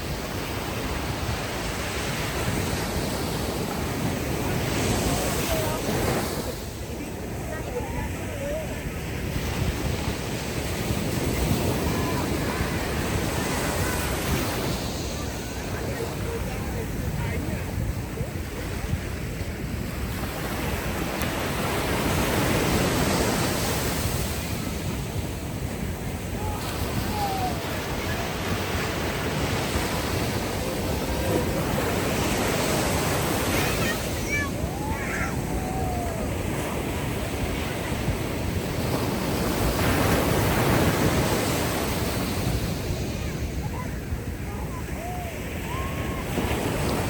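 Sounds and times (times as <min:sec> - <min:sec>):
ocean waves washing ashore: 0:00.0 - 0:47.0.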